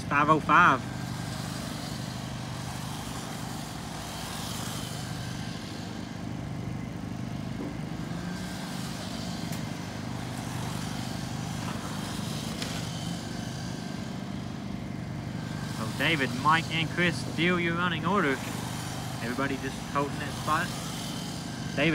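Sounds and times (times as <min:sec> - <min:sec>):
electric motors whining: 0:00.0 - 0:21.9
steady low hum: 0:00.0 - 0:21.9.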